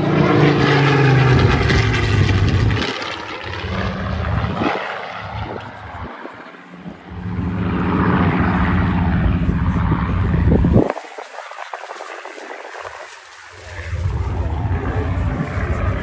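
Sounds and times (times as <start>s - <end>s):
propeller plane engine flyby: 0.0s - 16.0s.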